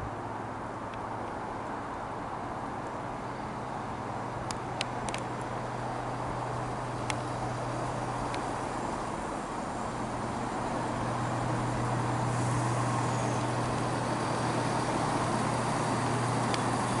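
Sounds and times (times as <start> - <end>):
diesel train engine hum: 0.0 - 17.0
train rumble: 0.0 - 17.0.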